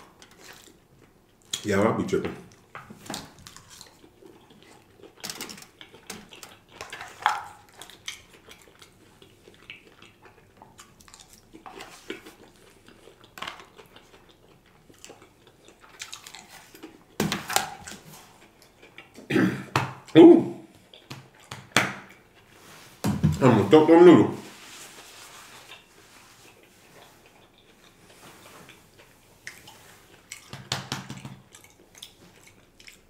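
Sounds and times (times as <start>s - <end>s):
chewing and mouth sounds: 2.4s - 19.3s, 19.9s - 22.8s, 25.0s - 33.0s.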